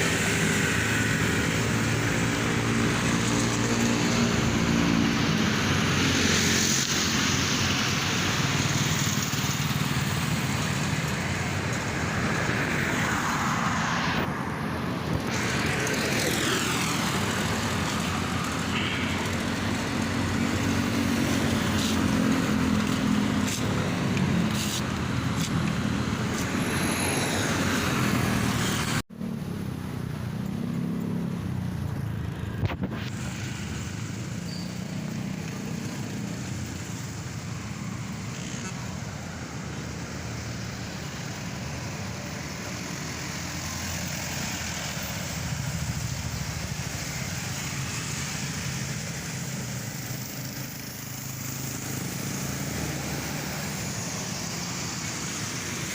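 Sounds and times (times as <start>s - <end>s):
road traffic passing: 0.0s - 55.9s.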